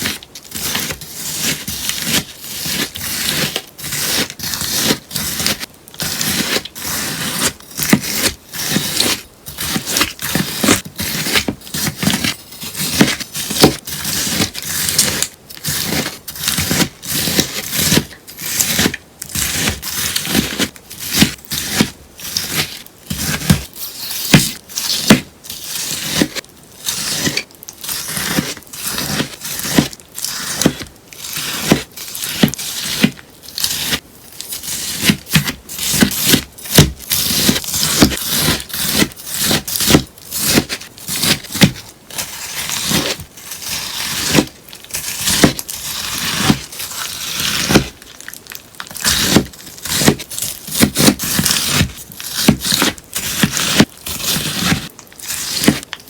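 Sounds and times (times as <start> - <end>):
sponge being cut: 0.0 - 48.0, 49.0 - 55.9.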